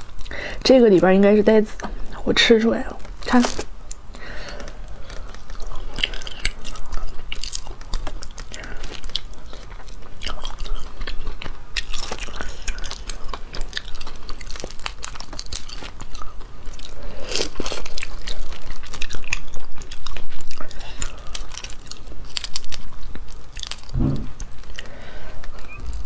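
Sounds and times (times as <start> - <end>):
crayfish shells cracking: 3.0 - 24.9
wet chewing: 3.0 - 26.0.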